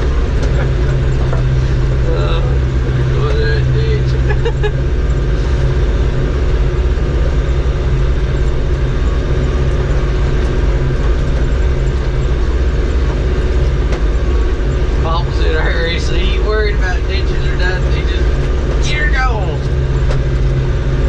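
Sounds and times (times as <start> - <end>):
tractor engine under load: 0.0 - 21.0.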